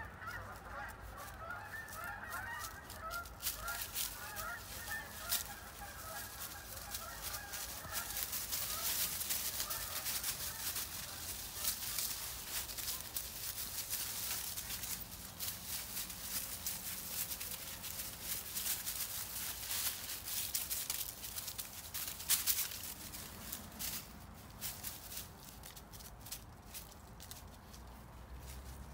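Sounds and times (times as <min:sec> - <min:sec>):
dry leaves crunching underfoot: 0:00.0 - 0:28.9.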